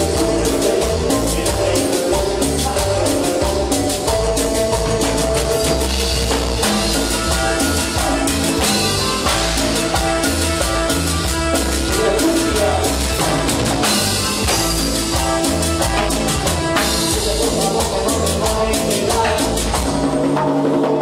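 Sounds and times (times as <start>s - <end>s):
guiro scraped in rhythm: 0.0s - 20.4s
latin dance band playing: 0.0s - 21.0s.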